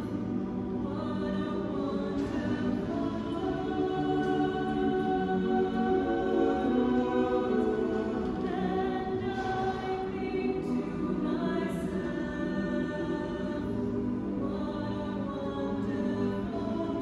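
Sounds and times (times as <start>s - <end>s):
mixed choir singing a cappella: 0.0s - 17.0s.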